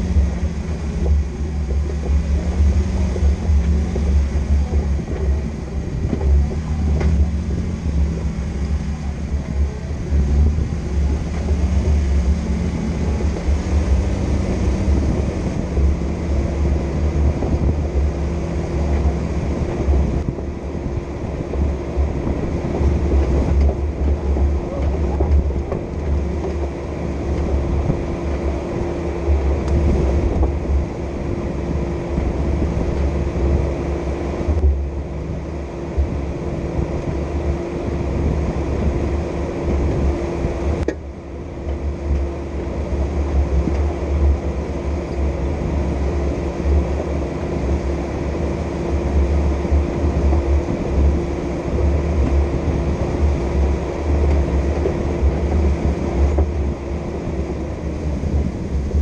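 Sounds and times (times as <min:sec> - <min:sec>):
engine and drivetrain rumble: 0:00.0 - 0:59.0.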